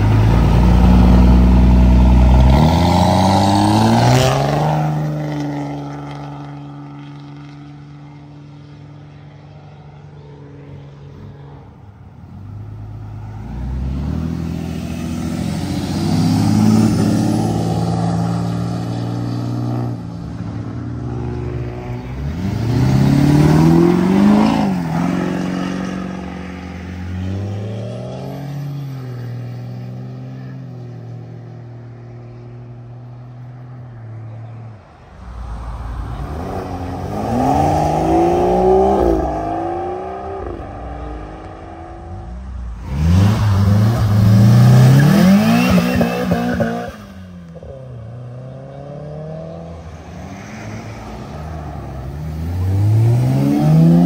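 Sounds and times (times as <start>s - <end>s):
car engines revving past: 0.0s - 54.0s.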